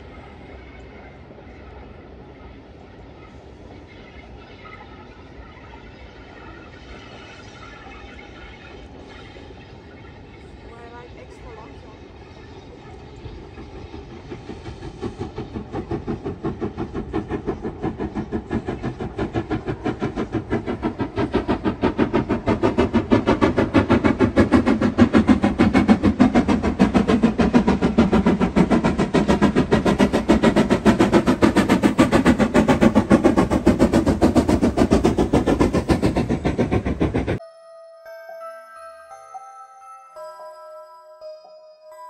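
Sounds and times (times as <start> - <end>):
steam locomotive chuffing: 0.0 - 37.4.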